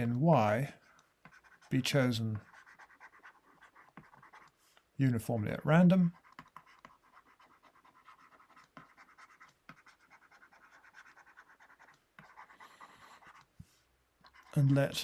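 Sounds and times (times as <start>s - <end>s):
stylus scratching on tablet screen: 0.0s - 4.7s, 5.8s - 15.0s.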